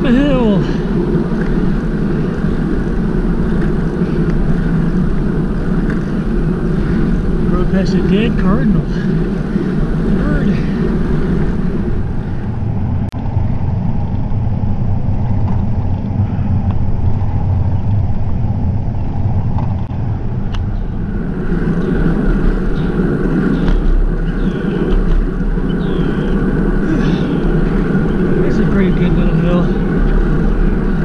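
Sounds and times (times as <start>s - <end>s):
bicycle riding rumble: 0.0s - 31.0s
wind on microphone: 0.0s - 31.0s.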